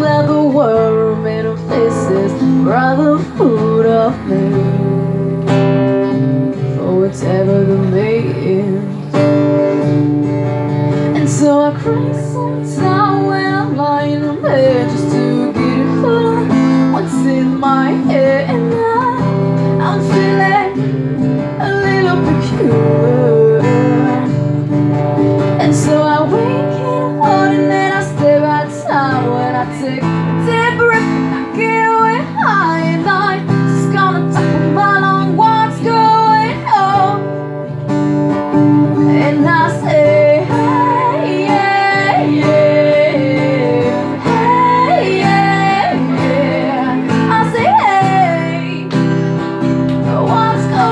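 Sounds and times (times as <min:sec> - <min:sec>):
woman singing: 0:00.0 - 0:10.0, 0:10.9 - 0:37.8, 0:38.5 - 0:50.9
strummed acoustic guitar: 0:00.0 - 0:50.9.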